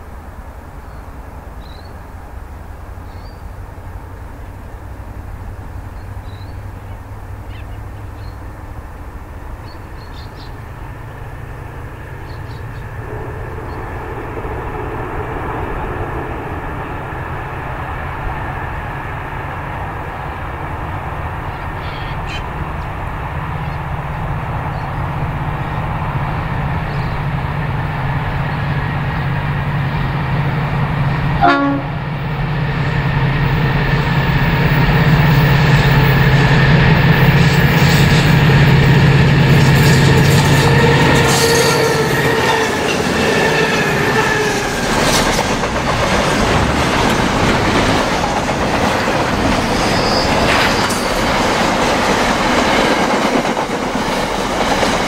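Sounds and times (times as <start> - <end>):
locomotive engine drone: 0.0 - 55.0.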